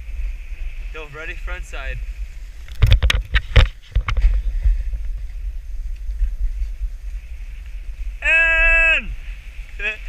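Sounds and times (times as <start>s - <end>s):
snowboard scraping and thudding: 0.0s - 8.1s
snowboard rumbling over snow: 0.0s - 10.0s
wind buffeting microphone: 0.0s - 10.0s.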